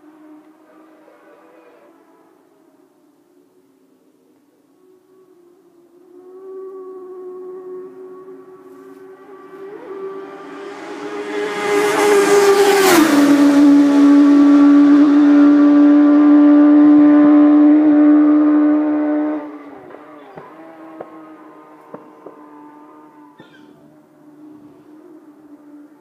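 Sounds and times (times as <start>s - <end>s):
racing motorcycle passing: 0.0s - 4.0s, 4.7s - 26.0s.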